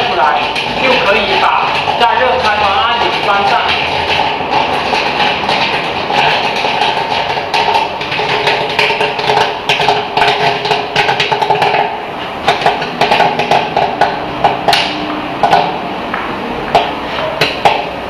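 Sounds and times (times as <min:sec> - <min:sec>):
popcorn popping in machine: 0:00.0 - 0:18.0.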